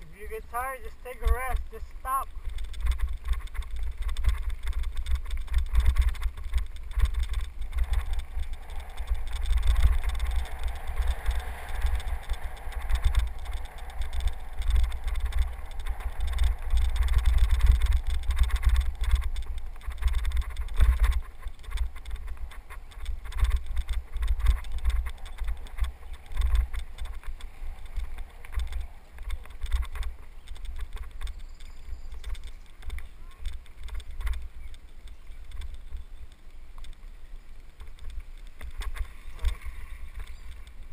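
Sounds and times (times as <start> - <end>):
tyres rolling on dirt: 0.0 - 40.9
wind buffeting microphone: 0.0 - 40.9.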